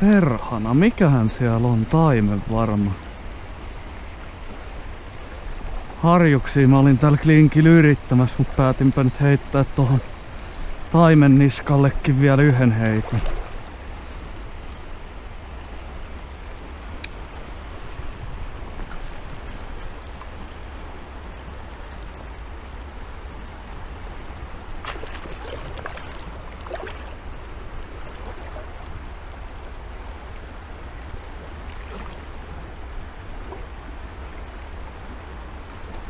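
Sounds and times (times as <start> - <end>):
flowing river water: 0.0 - 36.0
wind rumble on microphone: 0.0 - 36.0.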